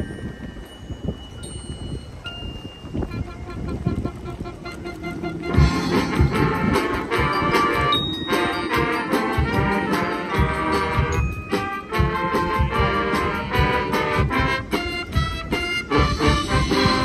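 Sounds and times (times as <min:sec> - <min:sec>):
drums and percussion: 0:00.0 - 0:17.0
brass ensemble: 0:03.1 - 0:17.0.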